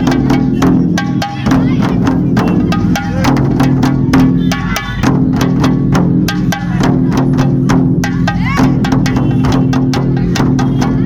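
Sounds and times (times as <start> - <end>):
fast sharp drum strikes: 0.0 - 11.0.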